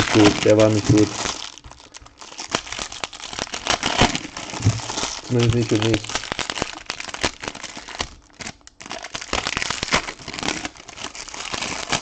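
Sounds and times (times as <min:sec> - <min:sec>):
wrappers crinkling and crackling: 0:00.0 - 0:12.0.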